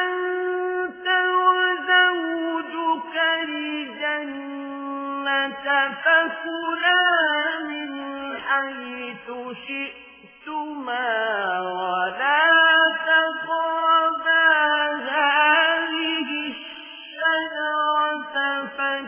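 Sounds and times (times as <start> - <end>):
person chanting melodically: 0.0 - 19.0.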